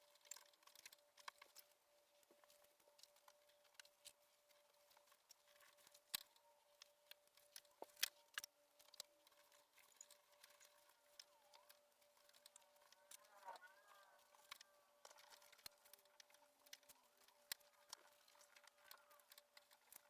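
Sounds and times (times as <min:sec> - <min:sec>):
faint steady hum: 0:00.0 - 0:20.0
ribbons rustling and clicking: 0:00.0 - 0:20.0.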